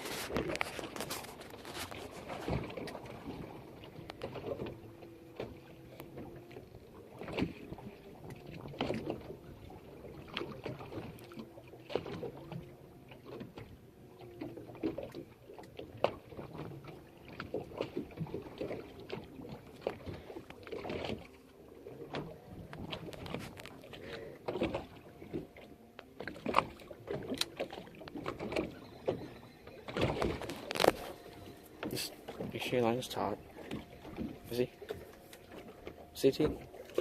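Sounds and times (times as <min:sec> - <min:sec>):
water sloshing against boat hull: 0:00.0 - 0:37.0.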